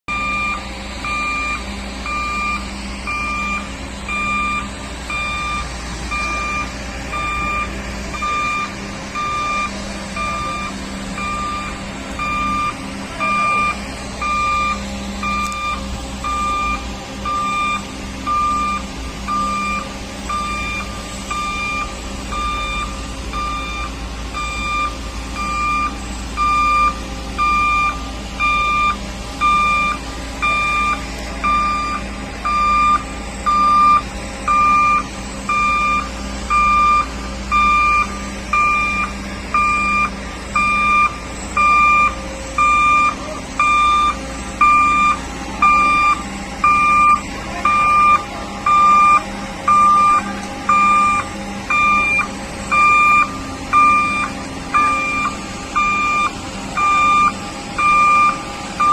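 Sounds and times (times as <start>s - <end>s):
low engine drone: 0.1s - 58.9s
pulsed warning beeps: 0.1s - 58.9s.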